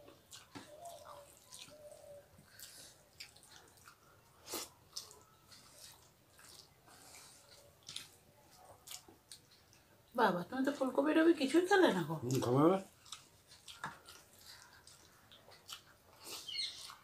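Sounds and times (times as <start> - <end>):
fingers mixing food wet clicks: 0.0 - 9.9, 12.2 - 17.0
mouths chewing: 0.0 - 10.8, 12.2 - 17.0.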